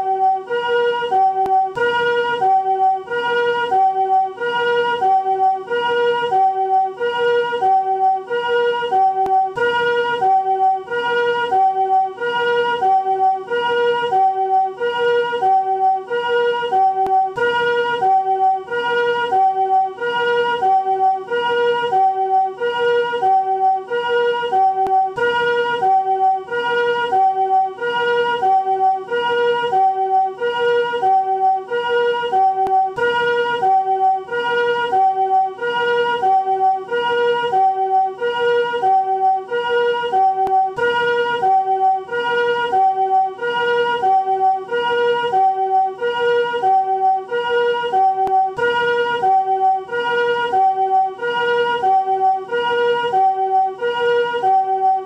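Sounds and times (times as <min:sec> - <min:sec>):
two-tone ambulance siren: 0:00.0 - 0:55.0.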